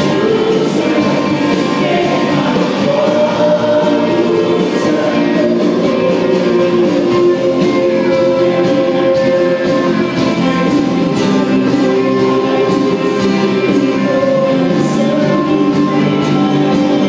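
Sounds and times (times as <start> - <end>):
guitar: 0.0 - 17.0
worship band music: 0.0 - 17.0.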